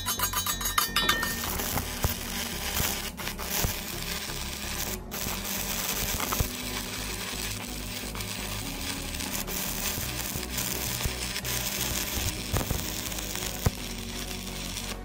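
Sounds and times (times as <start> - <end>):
welding arc crackling and sizzling: 0.0 - 15.0
sharp welding pops: 0.9 - 15.0.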